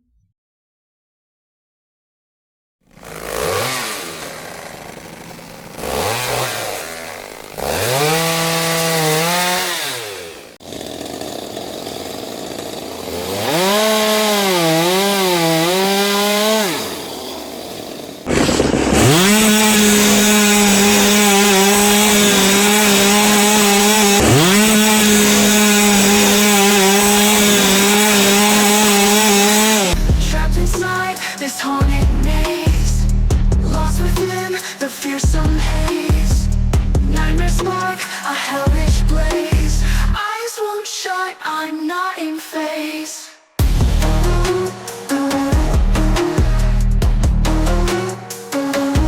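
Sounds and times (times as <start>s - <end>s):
chainsaw engine revving: 2.8s - 40.2s, 43.6s - 49.0s.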